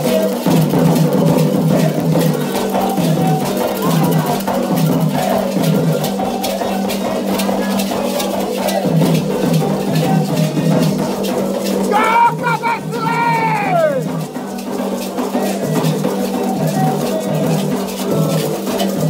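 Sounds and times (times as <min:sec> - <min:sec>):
hand drums beating fast rhythm: 0:00.0 - 0:19.0
voices singing: 0:00.0 - 0:19.0.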